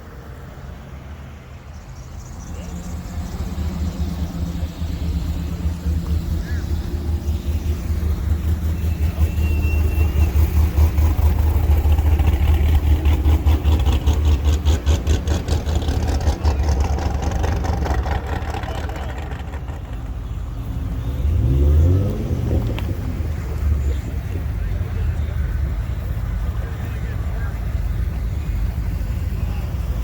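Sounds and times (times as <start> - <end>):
car engine with exhaust rumble: 0.0 - 30.0.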